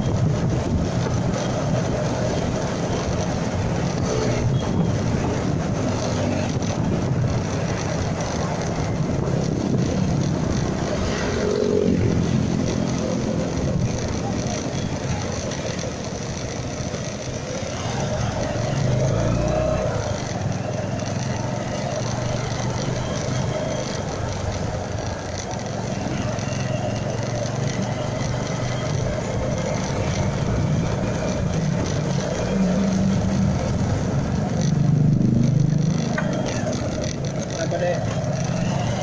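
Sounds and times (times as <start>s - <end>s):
motorcycle engine running: 0.0s - 39.0s
road and wind noise: 0.0s - 39.0s.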